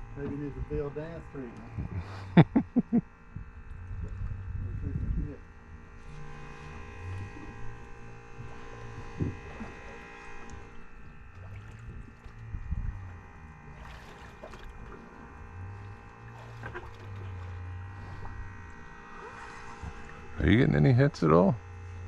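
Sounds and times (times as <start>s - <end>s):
boat motor humming and whining: 0.0s - 22.0s.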